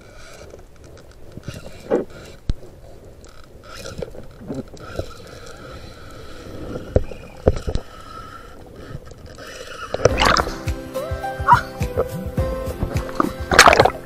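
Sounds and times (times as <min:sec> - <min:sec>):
muffled underwater water noise: 0:00.0 - 0:10.6, 0:12.8 - 0:14.0.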